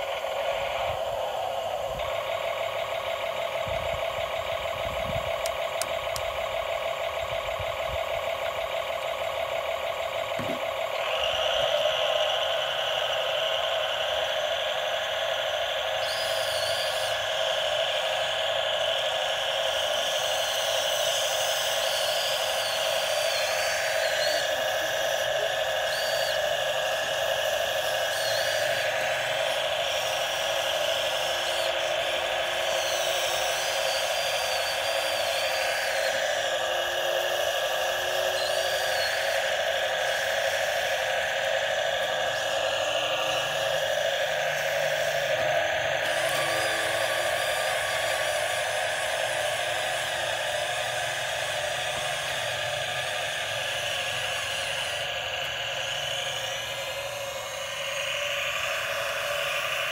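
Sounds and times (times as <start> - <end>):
toy excavator motors whining: 0.0 - 59.9.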